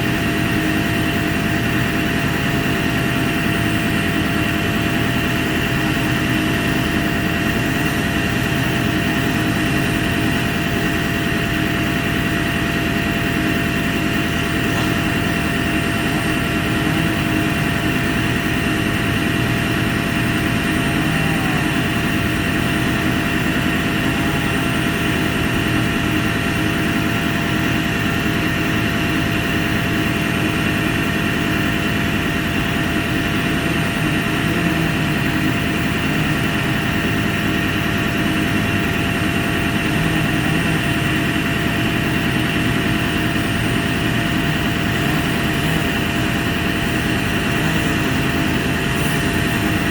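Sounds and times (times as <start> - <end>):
heavy engine humming steadily: 0.0 - 49.9.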